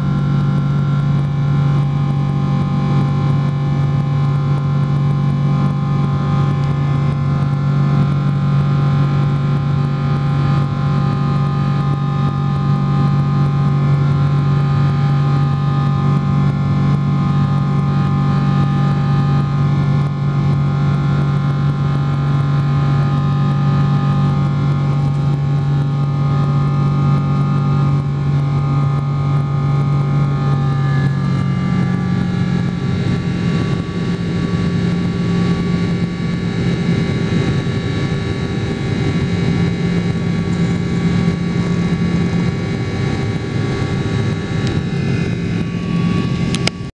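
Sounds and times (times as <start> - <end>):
jet engine drone: 0.0 - 46.9.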